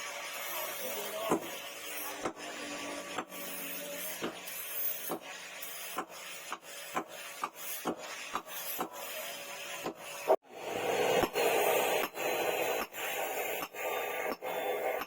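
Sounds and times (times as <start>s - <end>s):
hammer strokes on metal: 0.8s - 10.3s, 11.0s - 15.0s.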